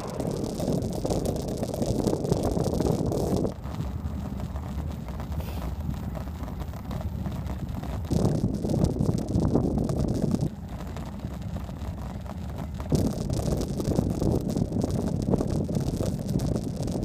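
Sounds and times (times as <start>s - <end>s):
low road rumble: 0.0s - 17.0s
wind buffeting microphone: 0.0s - 17.0s.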